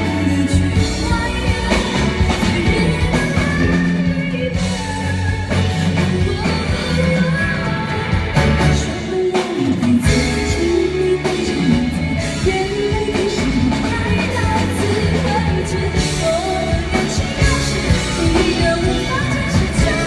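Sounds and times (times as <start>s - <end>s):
band with drums and bass: 0.0s - 20.0s
woman singing into microphone: 0.0s - 20.0s.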